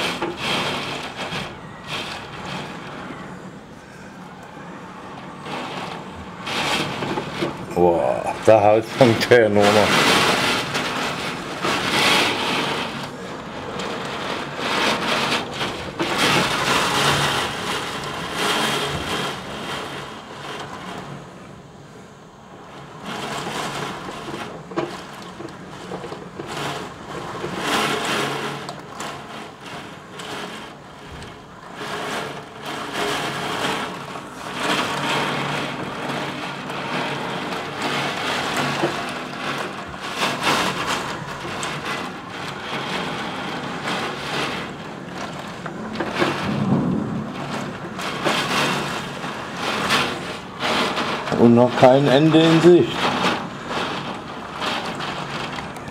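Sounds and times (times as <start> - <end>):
wind-driven heavy rain: 0.0 - 55.9.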